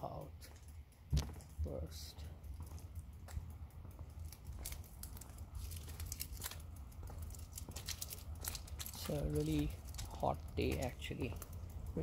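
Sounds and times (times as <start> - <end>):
clicks and rustles: 0.0 - 12.0.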